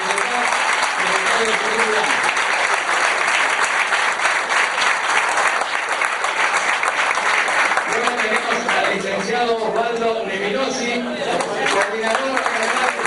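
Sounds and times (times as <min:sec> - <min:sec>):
audience applauding: 0:00.0 - 0:09.4, 0:11.3 - 0:13.0.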